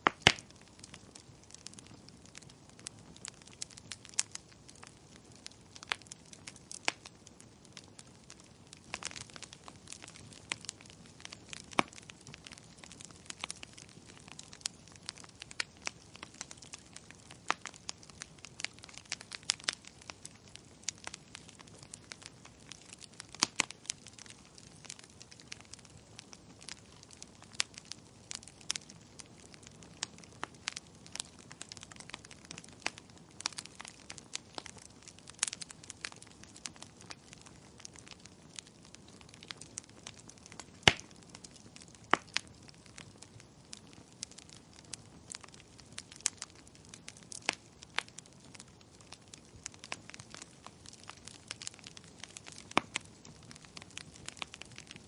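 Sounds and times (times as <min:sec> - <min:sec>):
faint steady hiss: 0:00.0 - 0:55.0
fire crackling and popping: 0:00.0 - 0:55.0.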